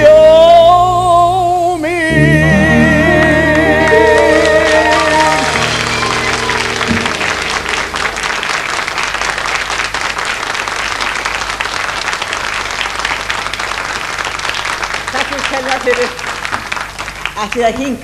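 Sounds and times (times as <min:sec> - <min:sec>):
audience applause: 0:03.1 - 0:18.0.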